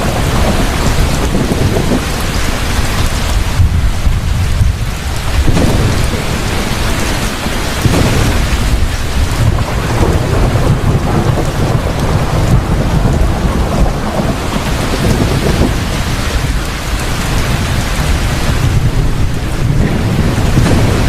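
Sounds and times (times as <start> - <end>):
heavy rain falling: 0.0 - 21.0
thunder rumbling: 0.0 - 21.0.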